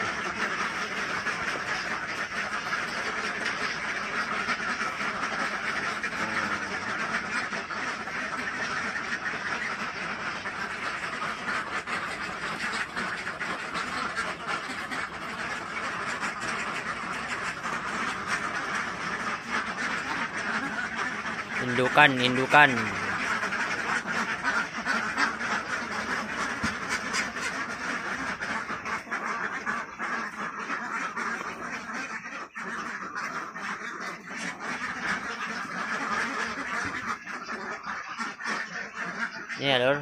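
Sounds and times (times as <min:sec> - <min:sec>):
ducks quacking: 0:00.0 - 0:40.0.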